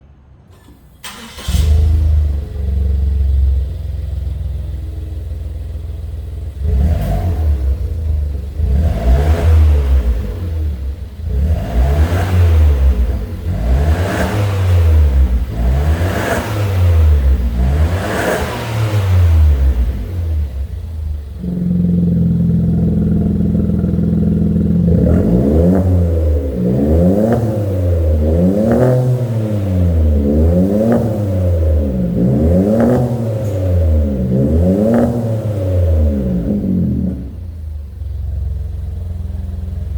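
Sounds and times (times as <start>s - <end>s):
car engine starting: 0.0s - 39.9s
car engine revving: 0.5s - 39.9s.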